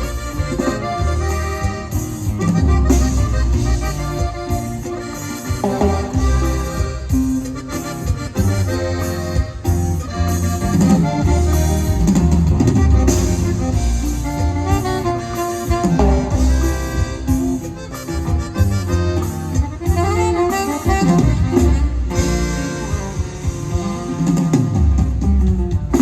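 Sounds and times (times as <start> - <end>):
bass: 0.0 - 26.0
button accordion melody: 0.0 - 26.0
drum kit: 0.0 - 26.0.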